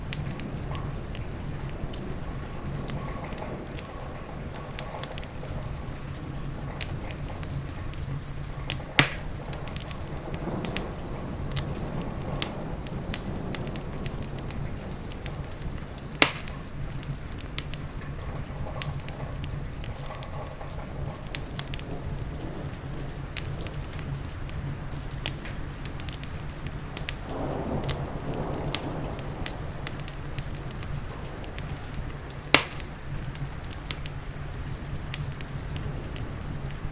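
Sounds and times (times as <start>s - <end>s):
rain hissing: 0.0s - 36.9s
sharp fire pops: 0.0s - 36.9s
wood fire crackling: 0.0s - 36.9s.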